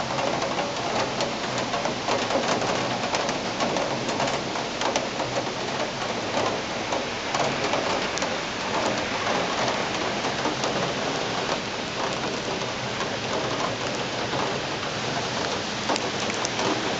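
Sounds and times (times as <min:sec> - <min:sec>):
steady rain hiss: 0:00.0 - 0:16.9
raindrop ticks: 0:00.1 - 0:16.9.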